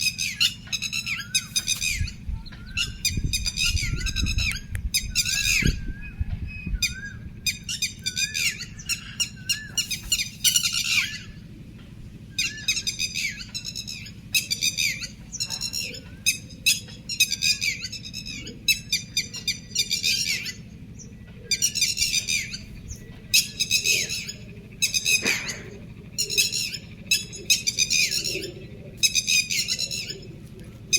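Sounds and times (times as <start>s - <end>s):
warbling bird whistle: 0.0s - 11.5s, 12.2s - 30.4s
birds squawking: 0.0s - 30.9s
steady low hum: 0.0s - 30.9s.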